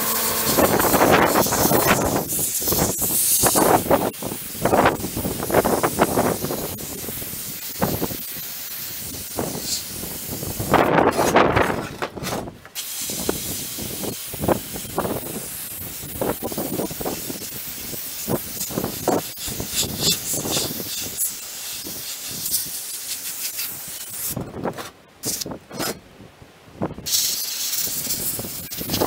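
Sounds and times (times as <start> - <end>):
sandblaster nozzle hissing: 0.0 - 11.4, 12.7 - 24.4, 27.0 - 29.0
wind gusts on microphone: 0.4 - 21.2, 24.2 - 27.2, 27.8 - 29.0.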